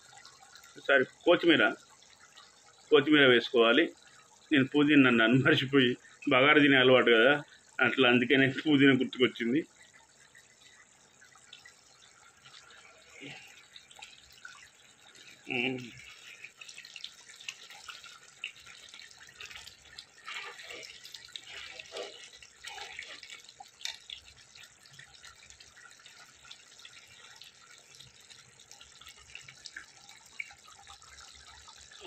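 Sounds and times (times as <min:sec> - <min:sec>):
curry bubbling in pan: 0:00.0 - 0:03.0, 0:04.0 - 0:32.0.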